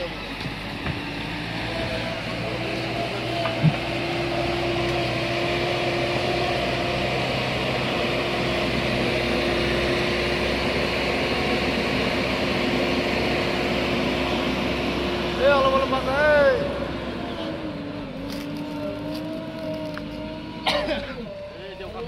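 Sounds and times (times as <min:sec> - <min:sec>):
constant engine whine: 0:00.0 - 0:22.0
diesel engine running: 0:00.0 - 0:22.0.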